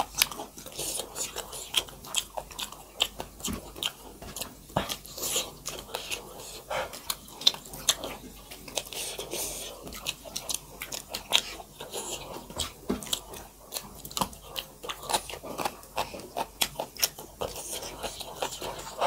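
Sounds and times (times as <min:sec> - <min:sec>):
people chewing and lip smacking: 0:00.0 - 0:19.0.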